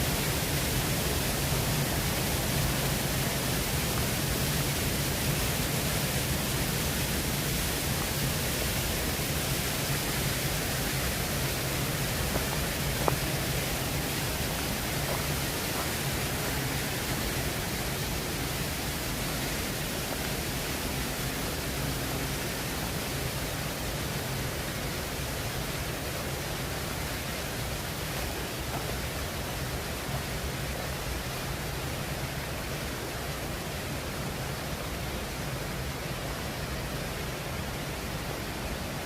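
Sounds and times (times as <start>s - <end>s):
waterfall roaring: 0.0s - 39.0s.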